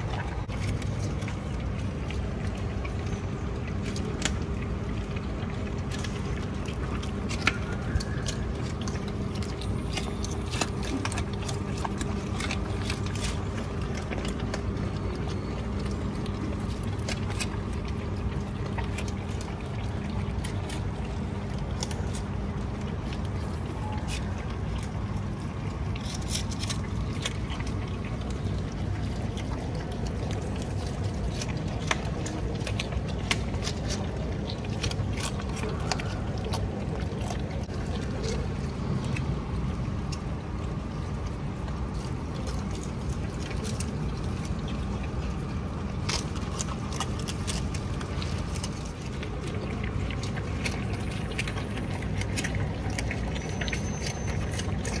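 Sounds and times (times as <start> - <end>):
steady low rumble: 0.0 - 53.3
animals chewing and crunching vegetables: 0.0 - 55.0.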